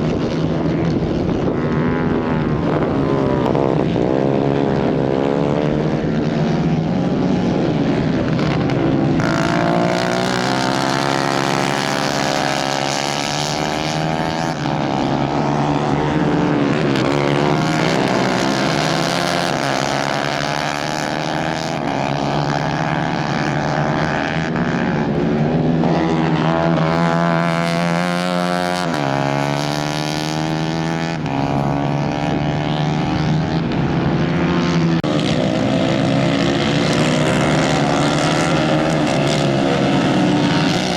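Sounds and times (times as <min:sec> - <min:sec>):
kart engines racing: 0:00.0 - 0:40.9.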